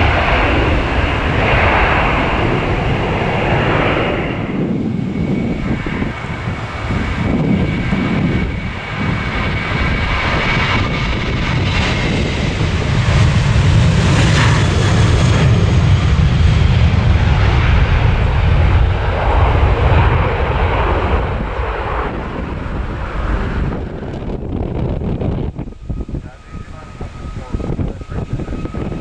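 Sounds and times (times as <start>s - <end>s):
jet engines at takeoff thrust: 0.0s - 29.0s.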